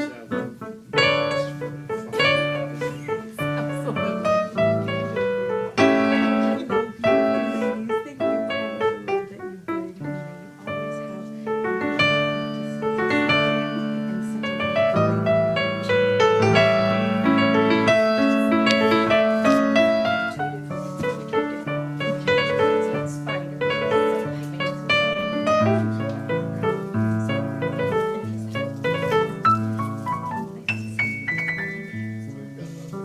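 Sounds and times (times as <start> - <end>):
solo piano music: 0.0 - 33.0.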